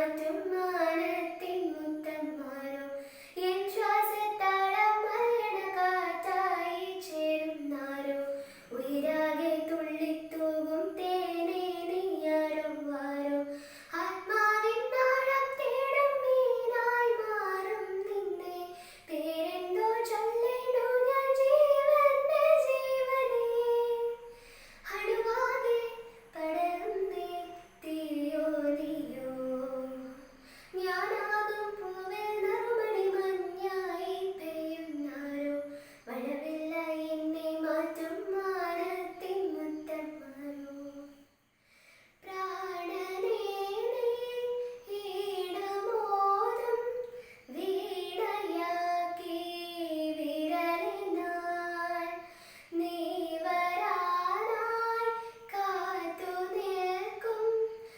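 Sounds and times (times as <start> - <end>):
girl singing unaccompanied: 0.0 - 41.3, 42.2 - 57.9.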